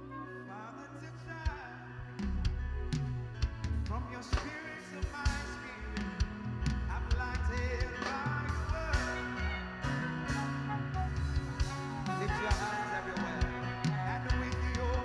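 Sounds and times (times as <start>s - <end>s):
band playing music: 0.0s - 15.0s
bass line: 1.4s - 4.5s, 5.1s - 15.0s.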